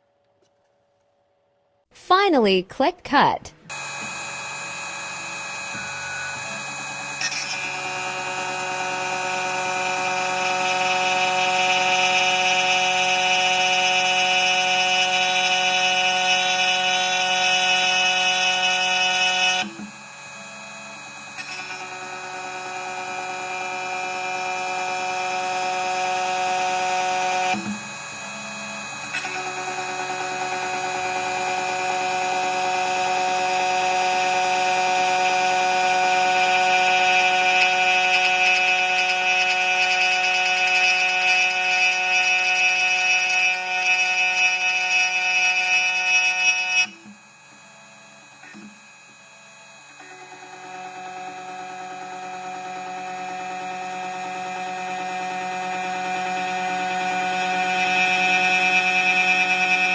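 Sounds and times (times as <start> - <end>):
key cutting machine motor whine: 3.7 - 59.9.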